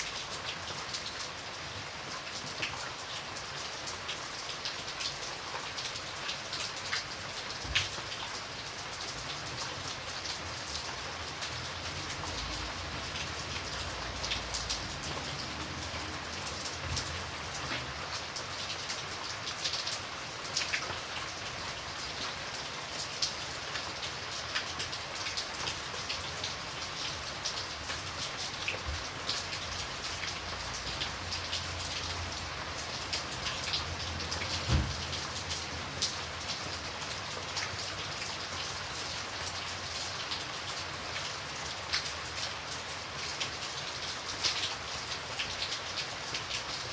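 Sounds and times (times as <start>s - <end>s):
rain falling: 0.0s - 46.9s
raindrops pattering on a surface: 0.0s - 46.9s.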